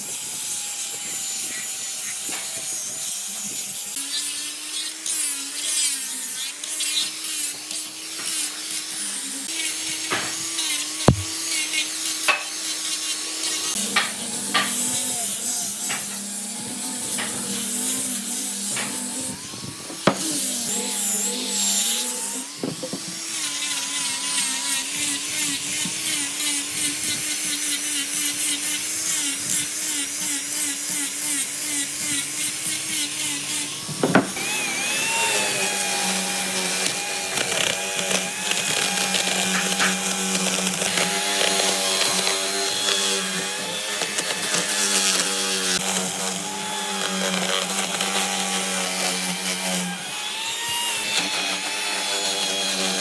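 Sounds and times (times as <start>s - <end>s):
power tool motor cutting wood: 0.0s - 53.0s.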